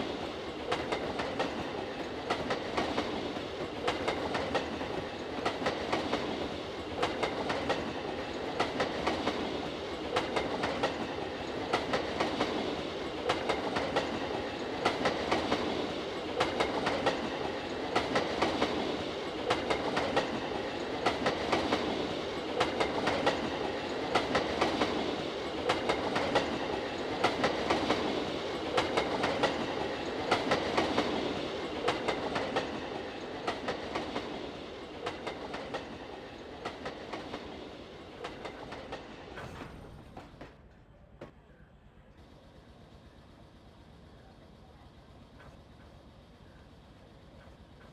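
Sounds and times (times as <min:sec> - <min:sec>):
train wheels clacking over rail joints: 0:00.0 - 0:41.4
continuous train rumble: 0:00.0 - 0:47.9.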